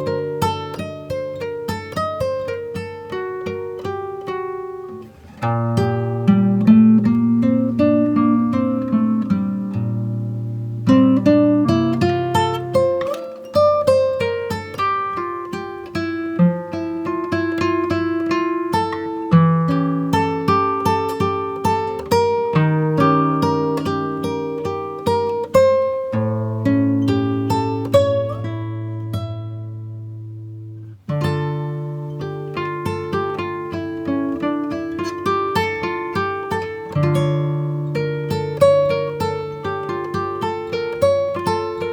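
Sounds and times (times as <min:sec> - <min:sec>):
acoustic guitar melody: 0:00.0 - 0:41.9.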